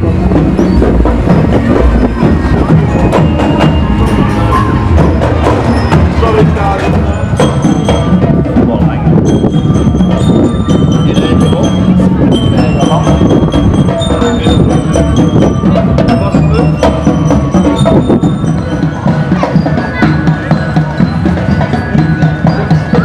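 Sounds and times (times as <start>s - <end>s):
bell lyres playing a tune: 0.0s - 23.0s
snare and bass drums beating: 0.0s - 23.0s.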